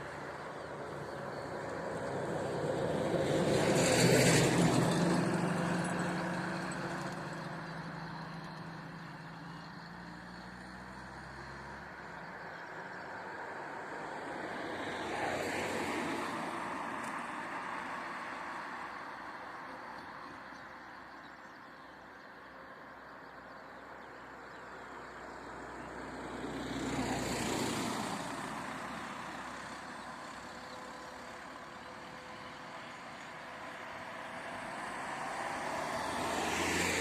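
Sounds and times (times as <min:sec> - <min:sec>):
vehicles driving past: 0:00.0 - 0:37.0.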